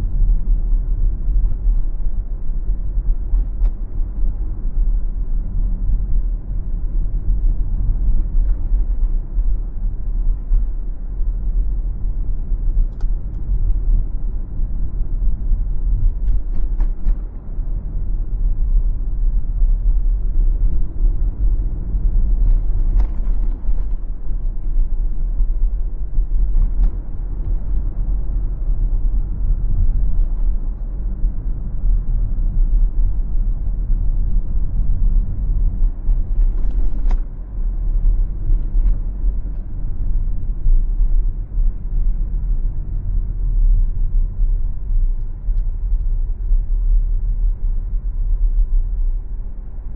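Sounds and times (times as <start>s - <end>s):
car road rumble and tyre noise: 0.0s - 49.9s.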